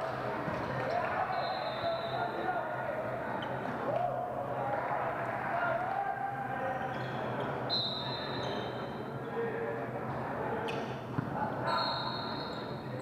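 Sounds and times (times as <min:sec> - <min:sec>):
voices chattering in a gym: 0:00.0 - 0:13.0.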